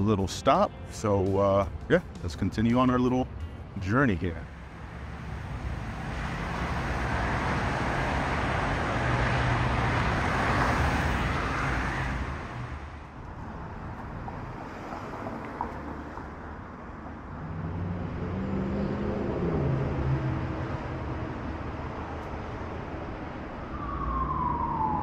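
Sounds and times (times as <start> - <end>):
dense freeway traffic rushing: 0.0 - 25.0.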